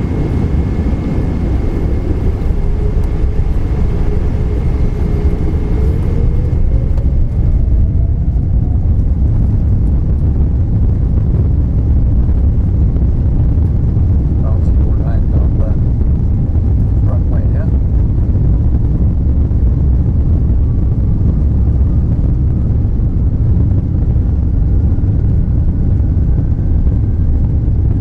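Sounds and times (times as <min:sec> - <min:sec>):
engine and wheel rumble: 0:00.0 - 0:28.0
jet engine whine rising: 0:00.0 - 0:28.0.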